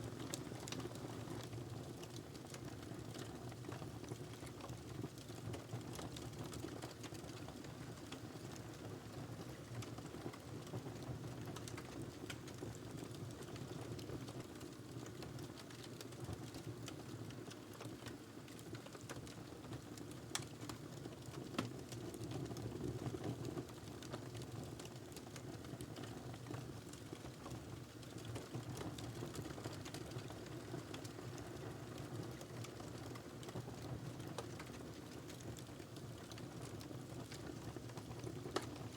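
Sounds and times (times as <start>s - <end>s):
wood fire crackling: 0.2s - 8.6s, 11.5s - 38.9s.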